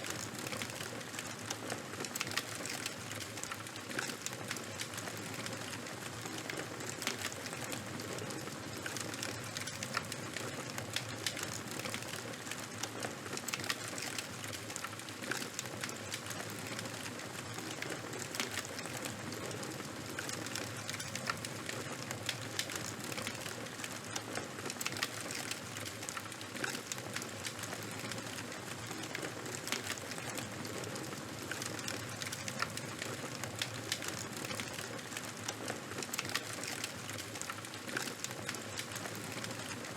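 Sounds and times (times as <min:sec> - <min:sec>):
fire crackling and hissing: 0:00.0 - 0:39.9.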